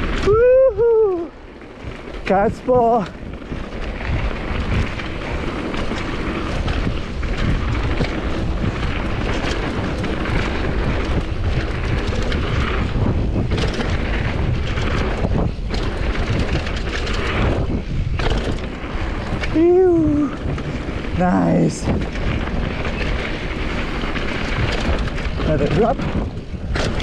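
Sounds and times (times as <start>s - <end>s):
bike chain and frame rattling: 0.0s - 27.0s
tyres rumbling on dirt: 0.0s - 27.0s
wind rushing over microphone: 0.0s - 27.0s.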